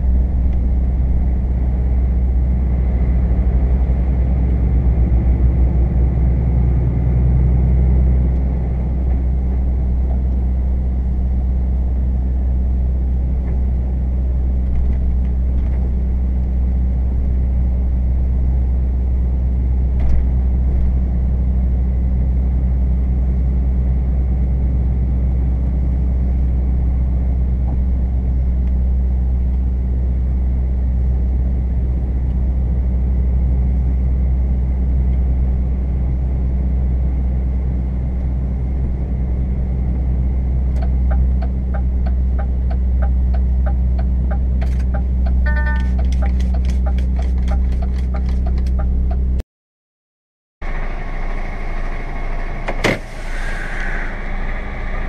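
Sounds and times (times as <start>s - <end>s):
truck diesel engine drone: 0.0s - 49.4s, 50.6s - 55.0s.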